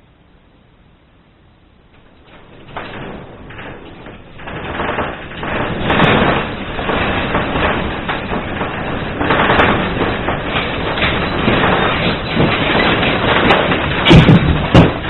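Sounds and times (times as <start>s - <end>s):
earthquake rumbling and rattling: 1.9s - 15.0s.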